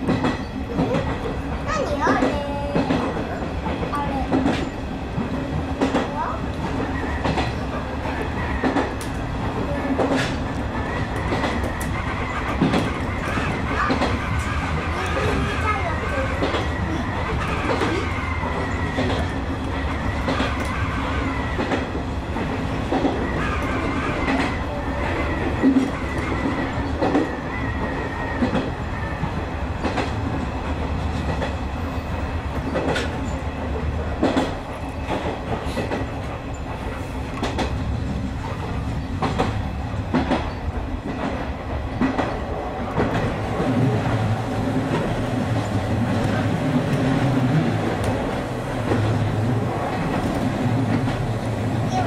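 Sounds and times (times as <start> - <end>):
train low rumble: 0.0 - 52.0
wheels clicking over rail joints: 0.0 - 52.0.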